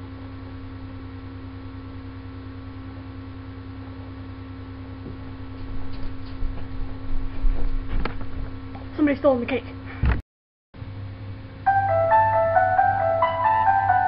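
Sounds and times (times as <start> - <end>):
electrical hum: 0.0 - 10.2, 10.8 - 14.0.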